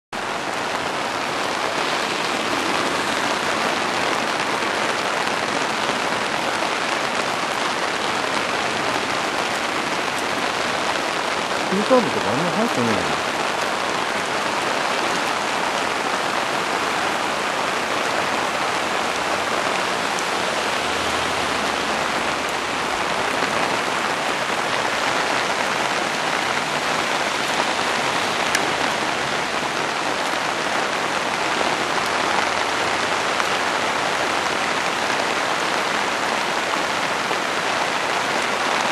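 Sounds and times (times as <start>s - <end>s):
heavy rain pouring: 0.2s - 38.9s.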